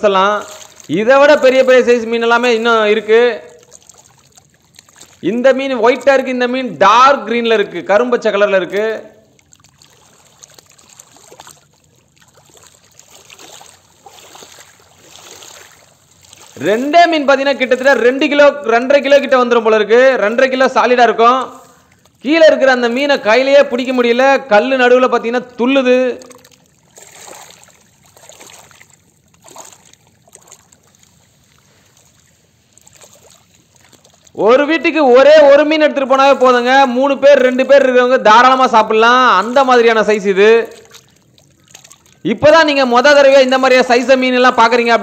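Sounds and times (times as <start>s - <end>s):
water lapping against rocky shore: 0.0s - 6.3s, 8.7s - 24.6s, 25.4s - 45.0s.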